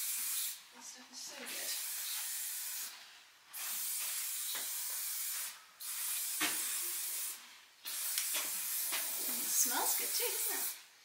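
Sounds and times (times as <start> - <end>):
spray bottle hissing bursts: 0.0 - 0.6, 1.5 - 10.9.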